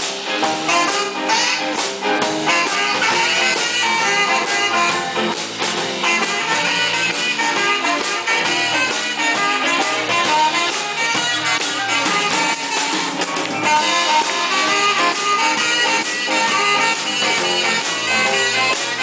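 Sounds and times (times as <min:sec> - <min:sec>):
live band playing instrumental: 0:00.0 - 0:19.0.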